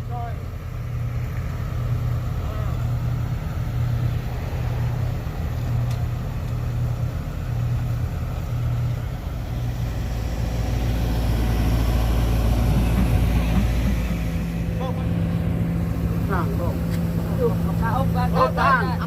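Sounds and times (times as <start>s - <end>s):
large engine running: 0.0s - 19.0s.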